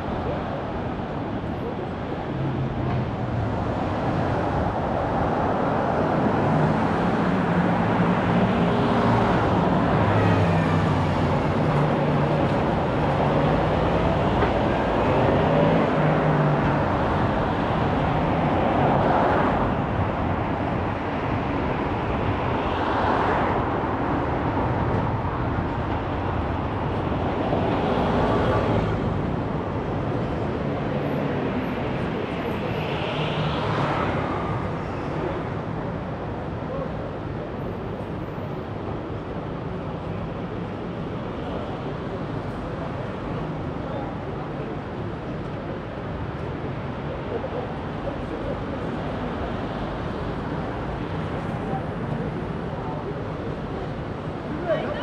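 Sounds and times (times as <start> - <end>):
road noise from passing traffic: 0.0 - 55.0.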